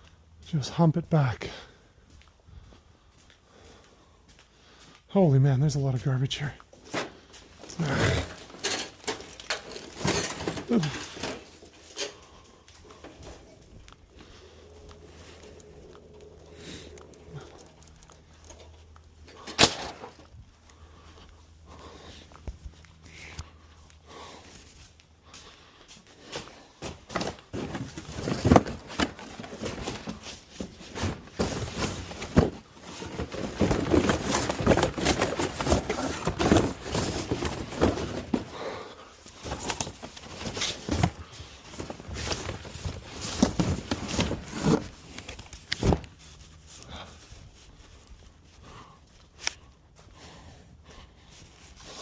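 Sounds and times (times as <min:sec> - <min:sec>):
rustling and scraping: 0:06.4 - 0:52.0.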